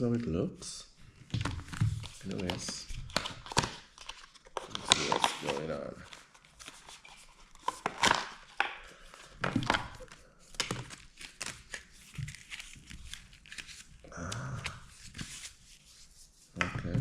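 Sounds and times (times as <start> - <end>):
packaging crinkling and tearing: 1.6 - 15.5.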